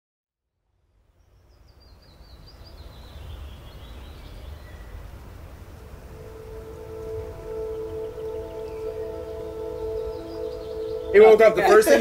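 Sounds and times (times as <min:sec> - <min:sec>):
songbird chirping: 0:01.1 - 0:12.0.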